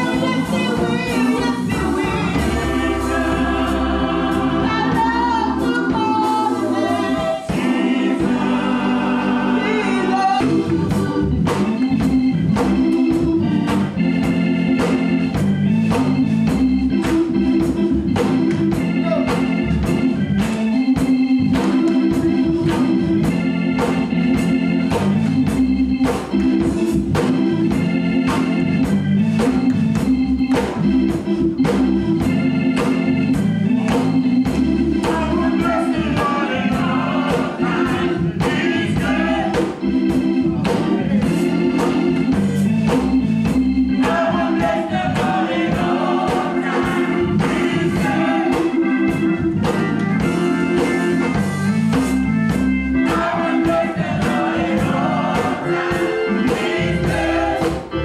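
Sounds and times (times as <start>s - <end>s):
organ chords: 0.0s - 58.0s
steady drum beat: 0.0s - 58.0s
voice gliding over organ: 0.0s - 58.0s.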